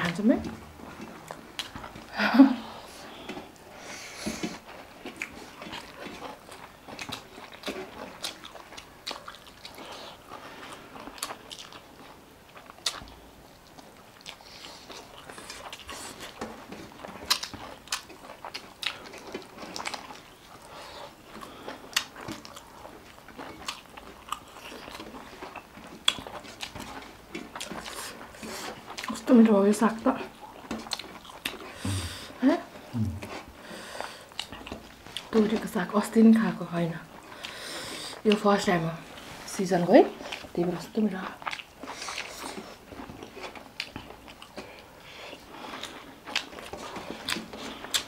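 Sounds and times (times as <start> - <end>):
chewing and biting: 0.8 - 2.1, 4.2 - 39.3, 40.0 - 48.0.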